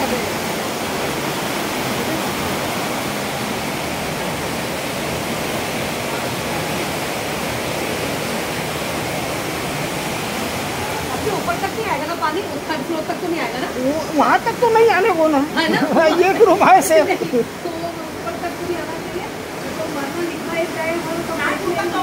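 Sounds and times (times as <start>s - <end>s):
floodwater running down street: 0.0s - 22.0s
heavy rain: 0.0s - 22.0s.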